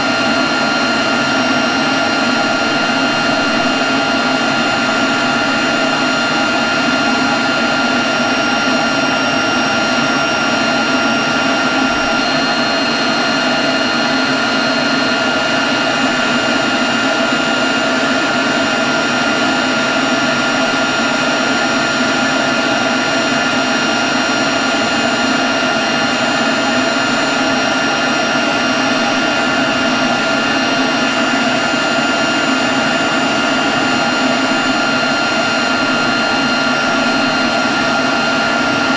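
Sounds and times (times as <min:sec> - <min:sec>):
leaf blower running: 0:00.0 - 0:38.9.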